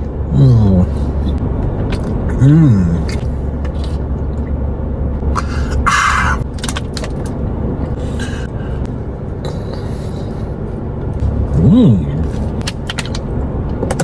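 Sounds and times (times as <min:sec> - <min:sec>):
low rumble inside a car: 0:00.0 - 0:14.0.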